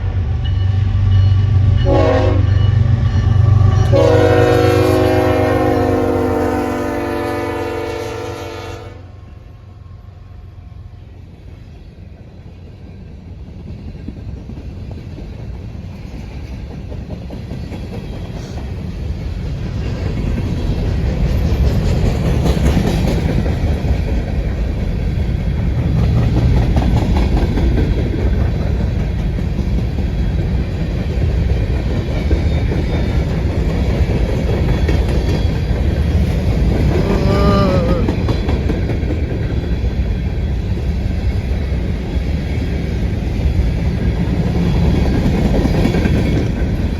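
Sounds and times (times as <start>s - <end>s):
train rumbling: 0.0s - 46.9s.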